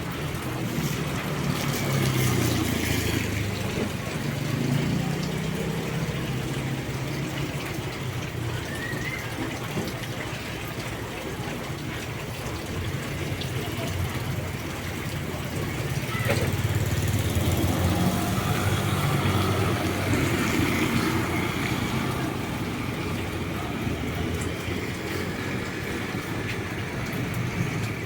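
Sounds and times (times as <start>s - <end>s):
heavy rain on vehicle: 0.0s - 28.0s.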